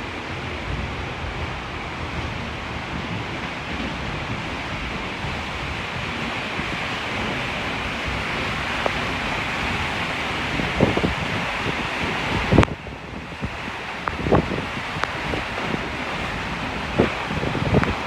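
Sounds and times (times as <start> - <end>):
waterfall roaring: 0.0 - 18.0
wind buffeting microphone: 0.0 - 18.0.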